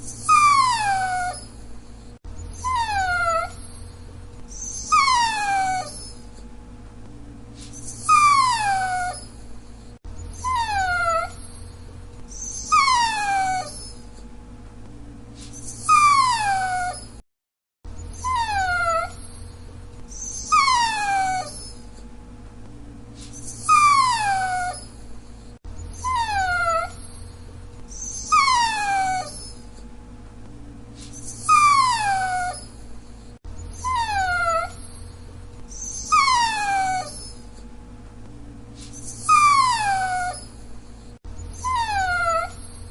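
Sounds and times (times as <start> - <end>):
dog whining: 0.0 - 6.5, 7.6 - 14.3, 15.4 - 17.2, 17.9 - 22.1, 23.2 - 29.9, 31.0 - 37.7, 38.8 - 42.9
faint steady hum: 0.0 - 17.2, 17.9 - 42.9.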